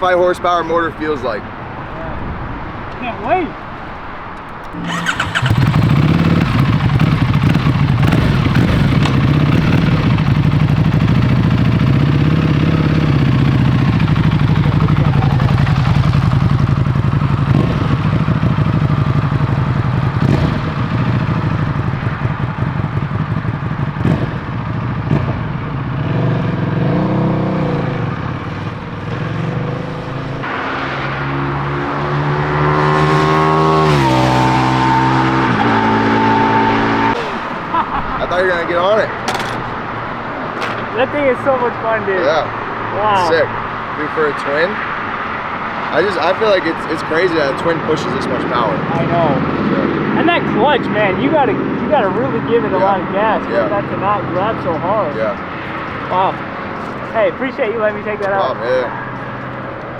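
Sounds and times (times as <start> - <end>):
motorcycle engine revving: 4.4 - 59.9.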